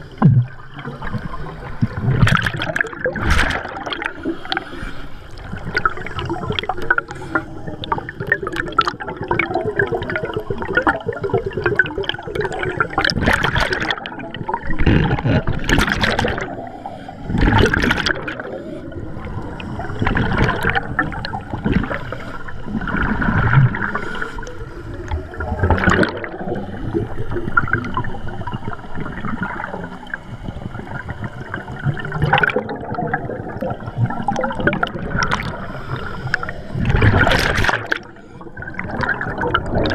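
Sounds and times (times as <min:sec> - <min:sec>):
air bubbling underwater: 0:00.0 - 0:04.5, 0:07.8 - 0:16.6, 0:17.3 - 0:24.1, 0:25.1 - 0:29.8, 0:30.8 - 0:35.8, 0:36.4 - 0:39.9.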